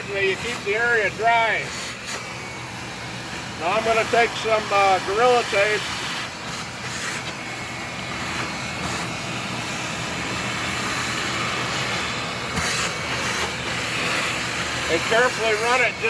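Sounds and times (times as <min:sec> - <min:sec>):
motor drone: 0:00.0 - 0:16.0.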